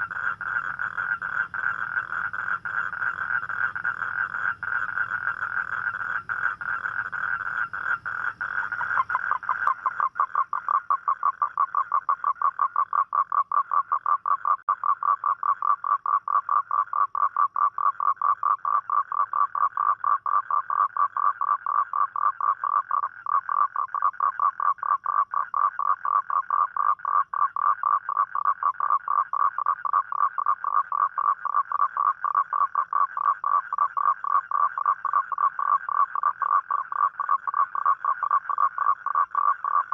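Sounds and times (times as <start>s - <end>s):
lower-pitched toad trill: 0.0s - 39.9s
toad trilling: 0.0s - 39.9s.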